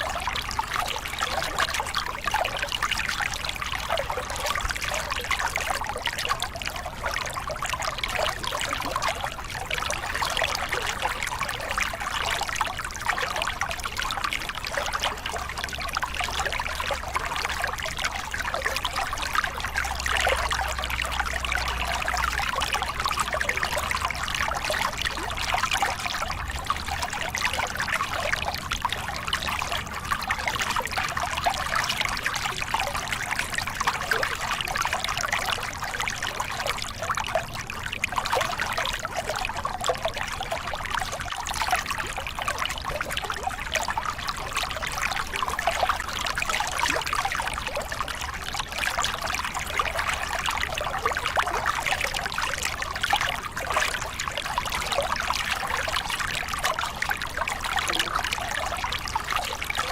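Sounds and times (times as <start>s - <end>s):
water splashing over rocks: 0.0s - 59.9s.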